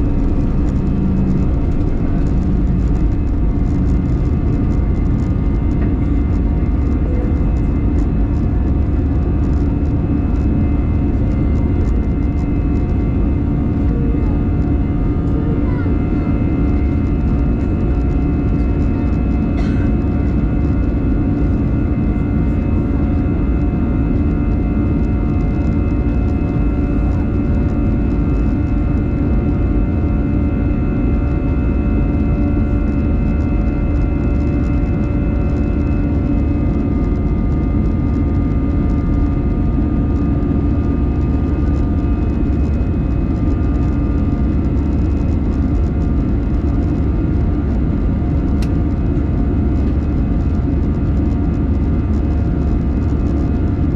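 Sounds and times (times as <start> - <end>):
engine whine: 0.0 - 53.9
jet engine roar in cabin: 0.0 - 53.9.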